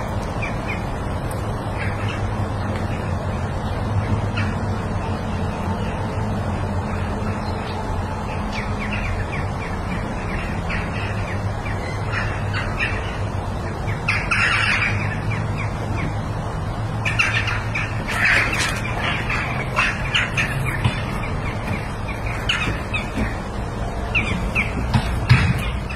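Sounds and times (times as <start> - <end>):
birds squawking and chirping: 0.0 - 25.9
steady low hum: 0.0 - 25.9.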